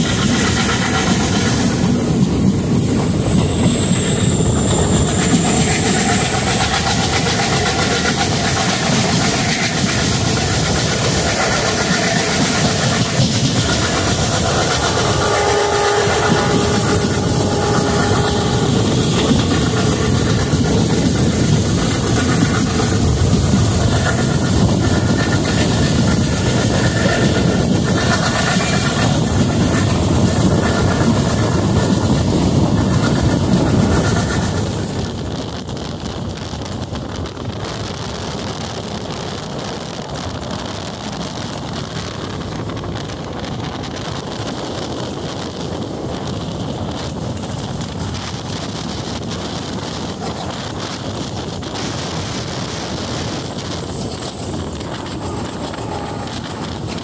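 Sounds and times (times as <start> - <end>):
train running on rails: 0.0 - 57.0
wind on microphone: 0.0 - 57.0.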